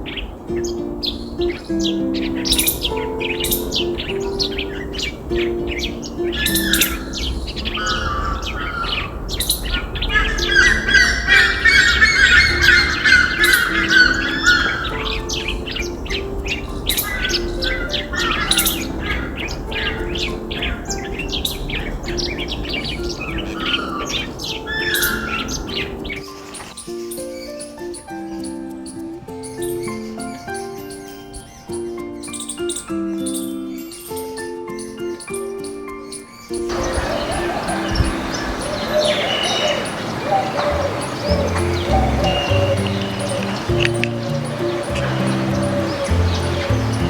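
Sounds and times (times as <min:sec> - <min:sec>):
birds chirping and calling: 0:00.0 - 0:47.0
soft background music: 0:00.0 - 0:47.0.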